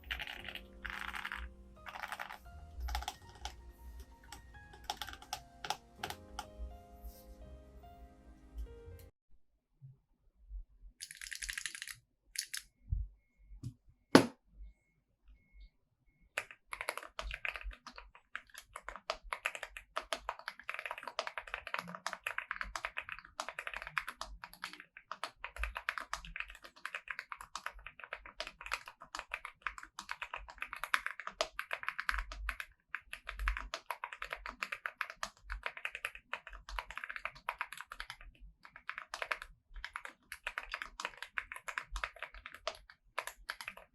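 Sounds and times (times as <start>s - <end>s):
rapid keyboard typing: 0.0s - 6.5s, 11.0s - 12.6s, 16.3s - 43.9s.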